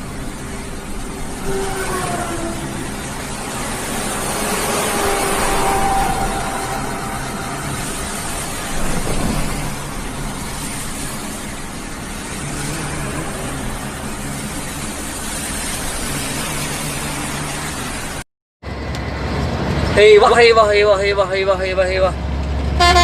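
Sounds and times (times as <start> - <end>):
loud rushing noise: 0.0 - 19.9.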